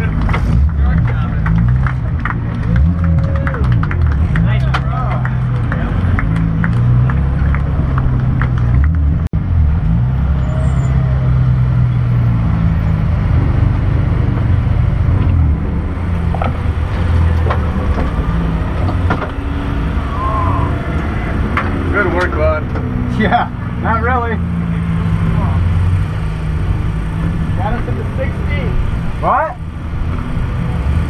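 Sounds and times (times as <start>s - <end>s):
car engine running at low revs: 0.0s - 31.0s.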